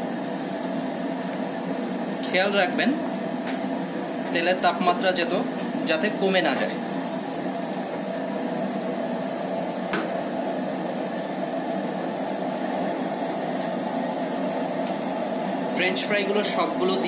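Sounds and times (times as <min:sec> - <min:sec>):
fries sizzling in hot oil: 0:00.0 - 0:17.0.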